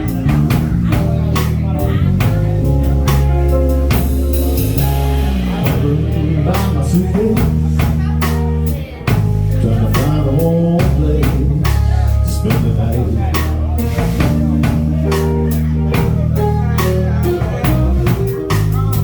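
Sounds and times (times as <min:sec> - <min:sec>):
instrumental band music: 0:00.0 - 0:19.0.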